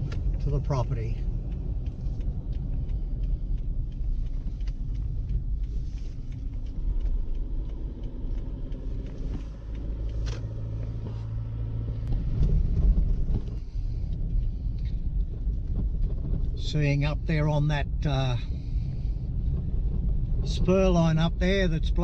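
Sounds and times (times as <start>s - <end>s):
car road and engine rumble: 0.0s - 22.0s
steady engine hum: 0.0s - 22.0s.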